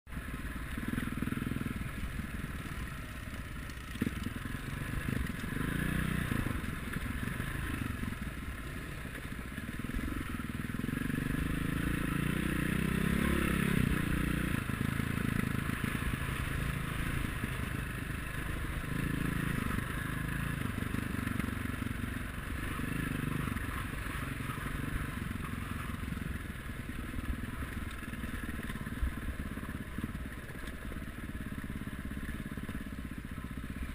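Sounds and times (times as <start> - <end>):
motorcycle engines revving: 0.1 - 33.9.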